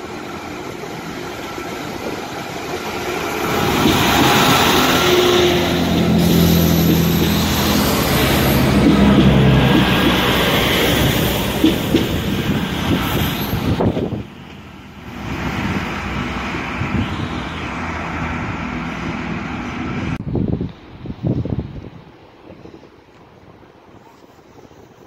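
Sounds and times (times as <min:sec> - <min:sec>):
diesel train passing: 0:00.0 - 0:24.0
distant train rumble: 0:00.0 - 0:25.0.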